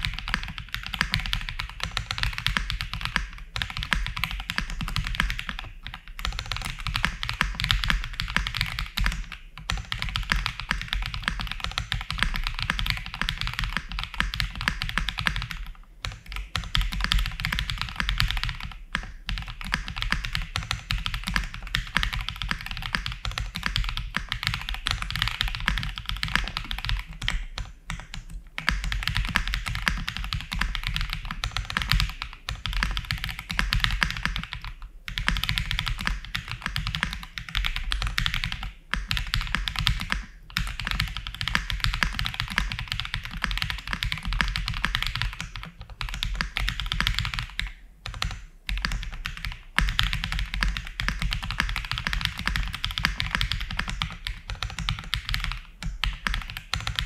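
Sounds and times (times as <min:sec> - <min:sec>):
fast mechanical keyboard typing: 0:00.0 - 0:57.0.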